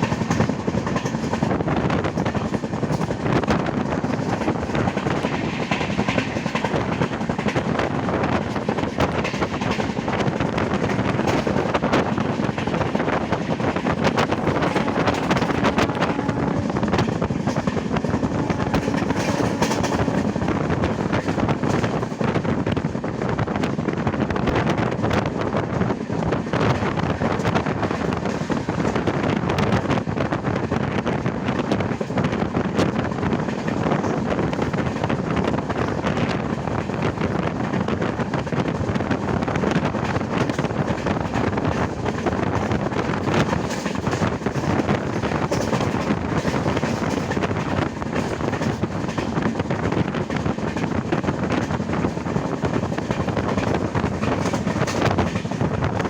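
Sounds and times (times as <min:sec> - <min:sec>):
train wheels rumbling on rails: 0:00.0 - 0:56.0
wind buffeting microphone: 0:00.0 - 0:56.0.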